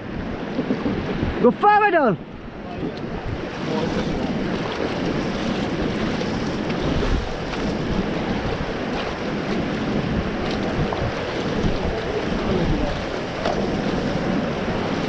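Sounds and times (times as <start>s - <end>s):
paddles in water: 0.0s - 15.0s
river water rushing and splashing: 0.0s - 15.0s
wind buffeting microphone: 0.0s - 15.0s.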